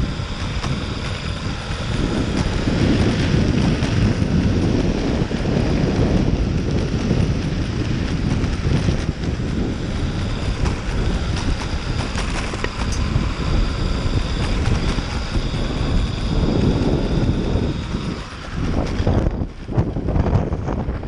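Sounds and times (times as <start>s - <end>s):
faint high motor whine: 0.0s - 21.0s
tyres rumbling on concrete: 0.0s - 21.0s
wind on microphone: 0.0s - 21.0s.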